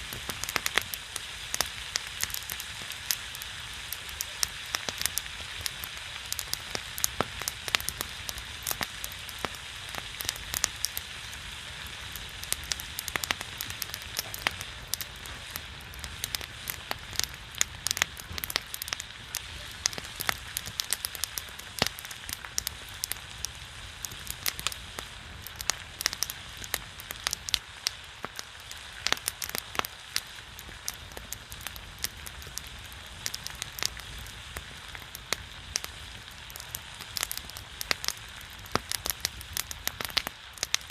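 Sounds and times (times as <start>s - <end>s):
fire popping and crackling: 0.0s - 40.9s
pork sizzling on a griddle: 0.0s - 40.9s.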